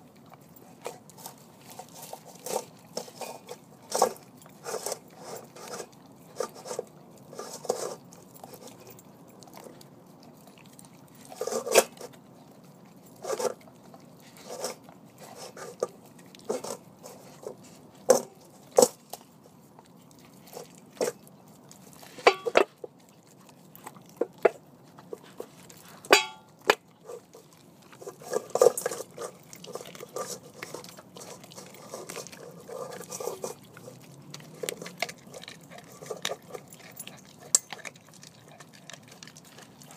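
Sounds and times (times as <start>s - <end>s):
dog chewing chicken bones: 0.0s - 39.9s.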